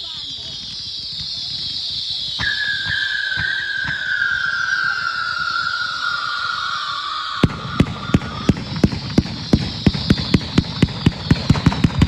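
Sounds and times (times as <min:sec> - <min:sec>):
firework cracks: 0:00.0 - 0:12.0
firework whine with hiss: 0:00.0 - 0:12.0.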